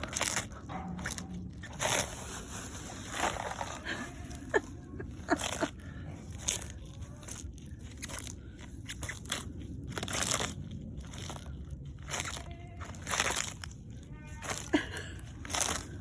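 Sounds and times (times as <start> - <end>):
animal crunching lettuce: 0.0 - 16.0.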